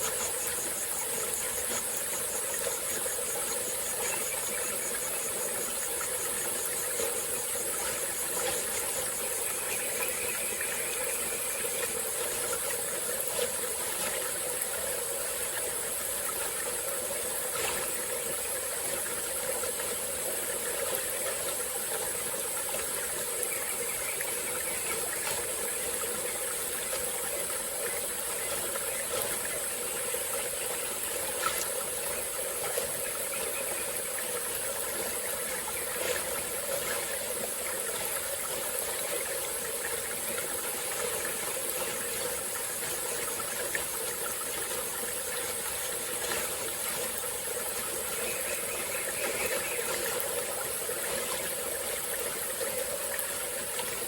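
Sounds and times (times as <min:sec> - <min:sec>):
faint water splashing ticks: 0:00.0 - 0:54.0
stream flowing: 0:00.0 - 0:54.0.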